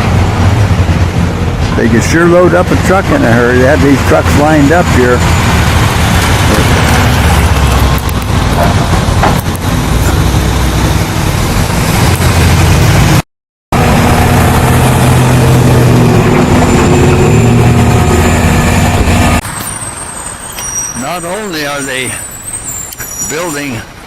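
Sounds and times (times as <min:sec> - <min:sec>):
diesel truck engine running: 0:00.0 - 0:13.2, 0:13.8 - 0:24.0.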